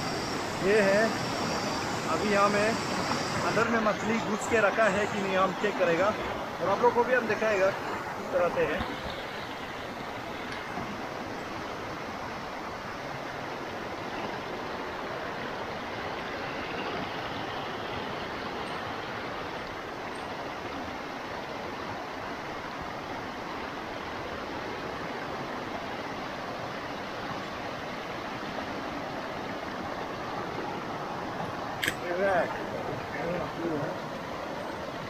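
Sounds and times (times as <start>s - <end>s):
fast-flowing stream rushing: 0.0s - 35.0s.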